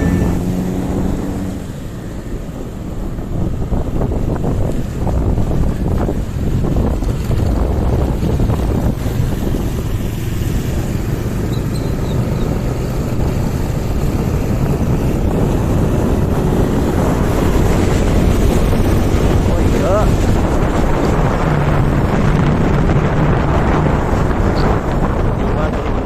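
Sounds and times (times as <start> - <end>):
motorcycle engine and road noise: 0.0 - 26.0
wind buffeting microphone: 0.0 - 26.0.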